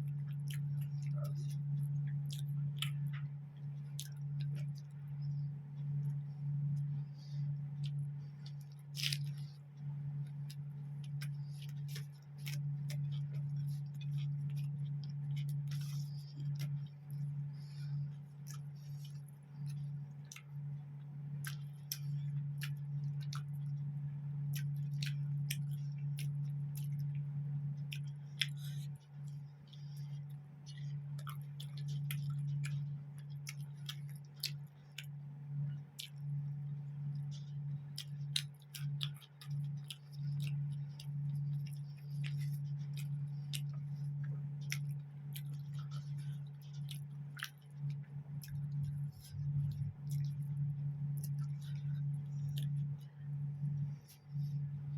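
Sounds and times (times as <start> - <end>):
person chewing food: 0.0 - 54.9
steady low hum: 0.0 - 54.9
wet mouth clicks and smacks: 0.1 - 20.8, 21.4 - 23.8, 24.5 - 54.7.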